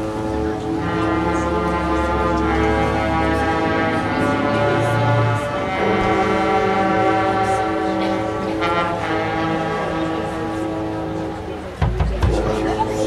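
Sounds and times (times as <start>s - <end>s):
marching band holding chords: 0.0s - 13.0s.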